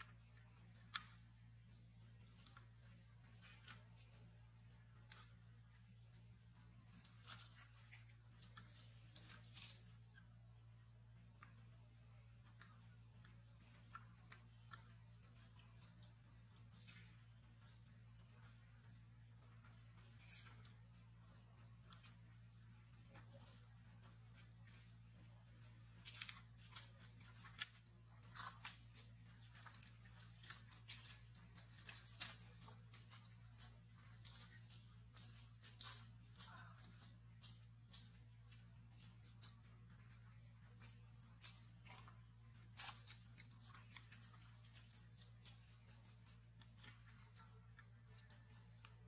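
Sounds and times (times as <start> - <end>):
twig crackling and clicking: 0.0 - 1.4, 2.2 - 49.0
faint low hum: 0.0 - 49.0.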